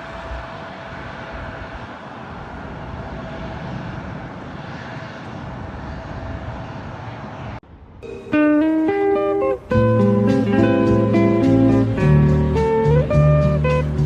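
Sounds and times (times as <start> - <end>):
jet airliner engine roar: 0.0 - 14.0
thin steady engine whine: 0.0 - 14.0.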